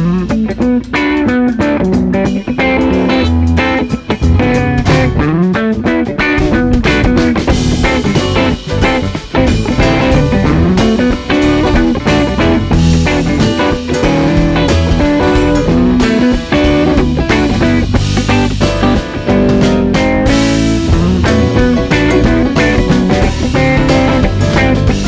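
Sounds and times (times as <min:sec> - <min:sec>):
drums steady beat: 0:00.0 - 0:25.0
electric guitar: 0:00.0 - 0:25.0
live band playing: 0:00.0 - 0:25.0.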